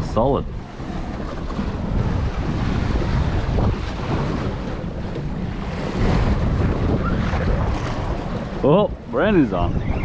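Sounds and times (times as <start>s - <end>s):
boat noise: 0.0s - 10.0s
sea: 0.0s - 10.0s
wind buffeting microphone: 0.0s - 10.0s.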